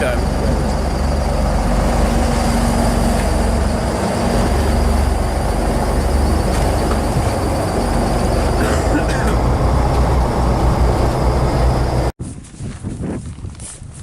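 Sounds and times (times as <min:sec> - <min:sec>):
boat motor rumbling: 0:00.0 - 0:12.1.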